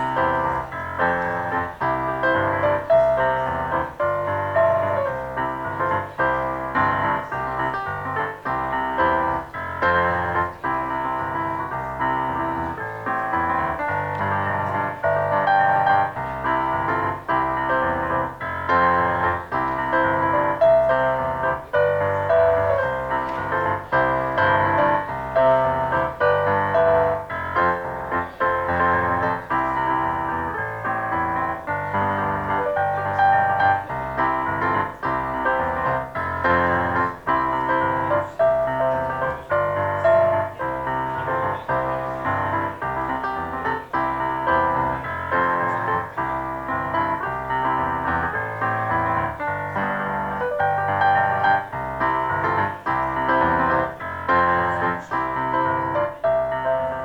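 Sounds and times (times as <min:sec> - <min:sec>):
slow piano piece: 0:00.0 - 0:57.0.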